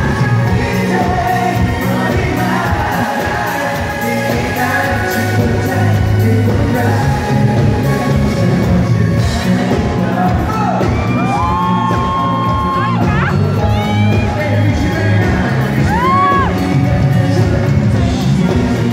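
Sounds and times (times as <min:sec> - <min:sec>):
live pop ballad: 0:00.0 - 0:18.9
strong bass line: 0:00.0 - 0:18.9.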